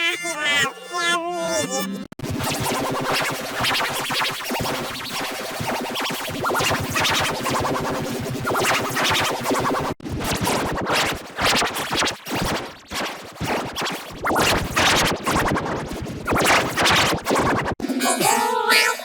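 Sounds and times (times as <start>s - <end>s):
distorted noisy audio effect: 1.8s - 18.3s.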